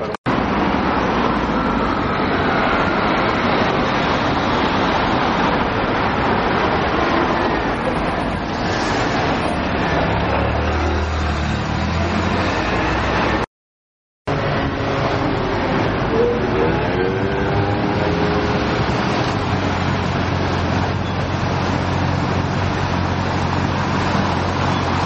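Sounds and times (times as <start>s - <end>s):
street traffic passing: 0.0s - 13.5s, 14.3s - 25.0s.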